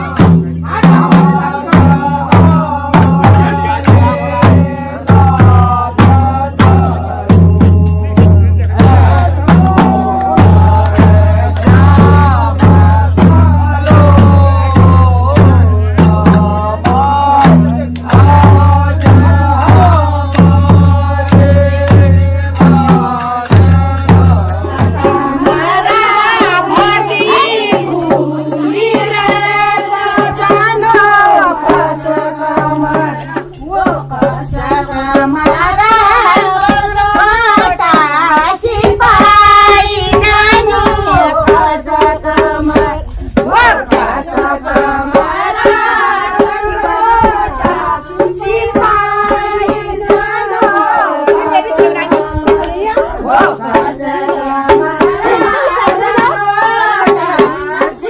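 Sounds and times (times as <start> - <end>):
hand drum: 0.0 - 58.0
voices singing folk song: 0.0 - 58.0.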